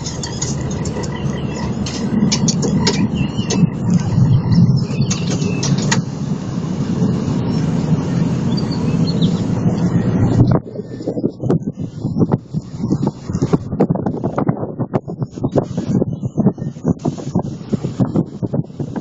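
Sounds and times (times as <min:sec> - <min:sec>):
ferry engine rumble: 0:00.0 - 0:19.0
sharp clicks and rattles: 0:00.0 - 0:19.0.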